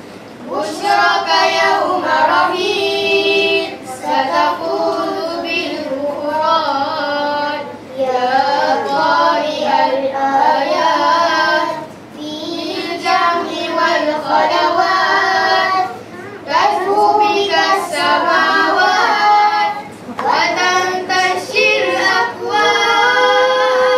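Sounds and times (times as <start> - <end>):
children singing: 0.4 - 23.9.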